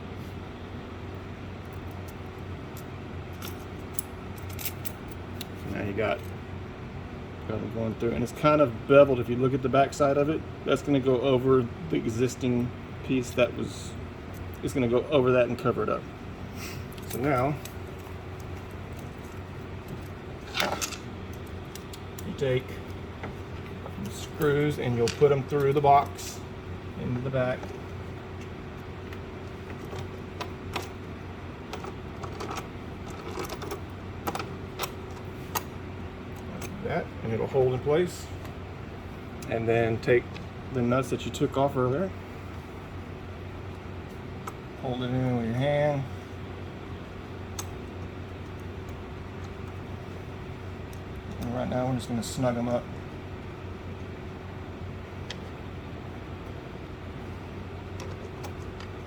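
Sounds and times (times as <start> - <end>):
low background hum: 0.0 - 59.0.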